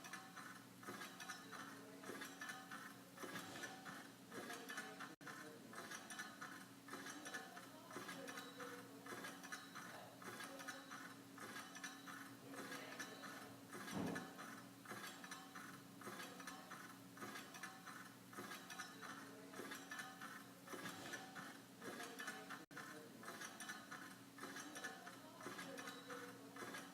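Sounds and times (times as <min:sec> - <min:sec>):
ceiling fan motor hum: 0:00.0 - 0:26.9
fan rhythmic ticking: 0:00.0 - 0:26.9.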